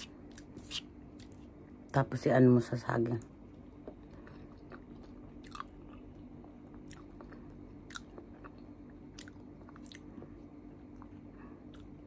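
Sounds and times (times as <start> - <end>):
person chewing food: 0.0 - 1.8, 3.2 - 12.0.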